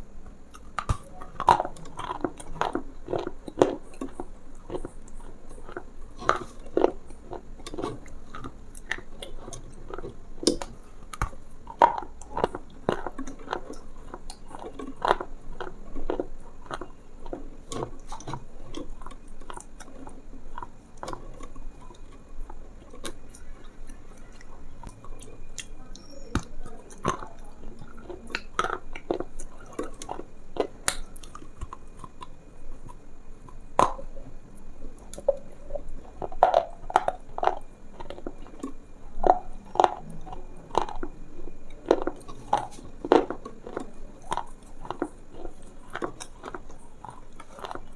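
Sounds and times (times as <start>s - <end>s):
chewing and biting: 0.3s - 47.9s.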